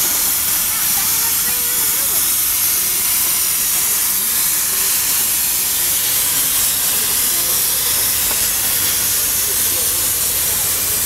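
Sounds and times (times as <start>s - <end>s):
steam locomotive venting steam: 0.0s - 11.0s.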